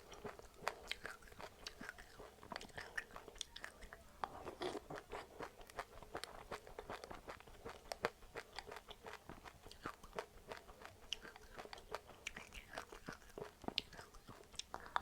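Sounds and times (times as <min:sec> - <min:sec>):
chewing and crunching seeds: 0:00.0 - 0:15.0.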